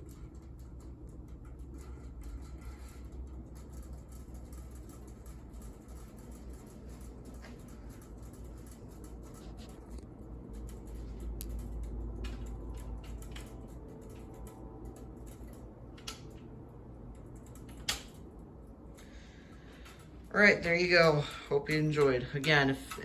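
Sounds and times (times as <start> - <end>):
ceiling fan rumbling: 0.0 - 23.0
fan blades clicking and crackling: 0.0 - 23.0.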